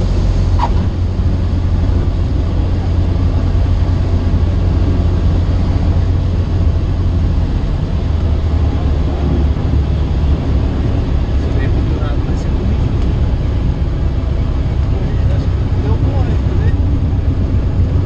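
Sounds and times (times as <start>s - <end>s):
small plane engine and propeller droning: 0.0s - 18.0s.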